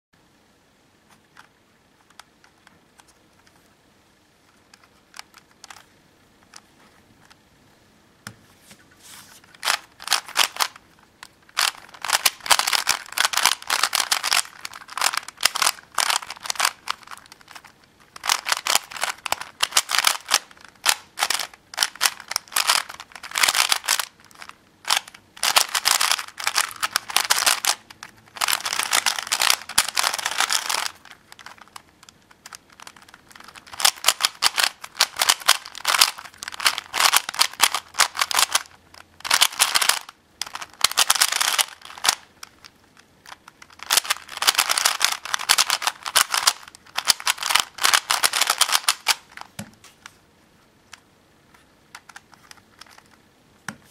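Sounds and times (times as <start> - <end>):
puzzle cube clicking: 4.6 - 7.4, 9.5 - 49.7, 50.9 - 53.2.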